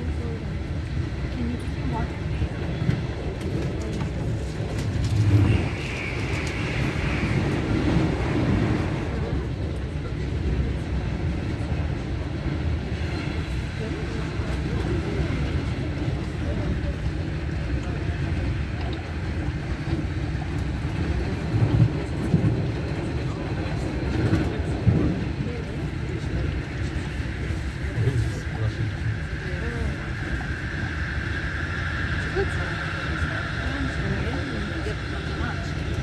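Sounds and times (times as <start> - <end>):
train wheels rumbling on track: 0.0 - 36.0.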